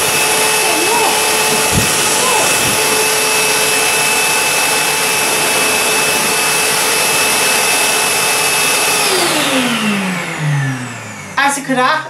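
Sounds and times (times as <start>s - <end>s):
motor winding down: 0.0s - 11.6s
vacuum blower running: 0.0s - 12.0s.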